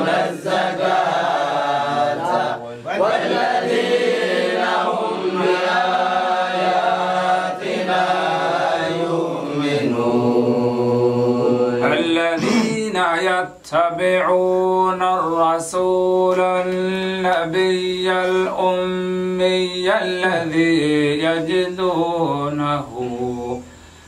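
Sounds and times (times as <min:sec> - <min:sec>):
man chanting recitation: 0:00.0 - 0:23.7.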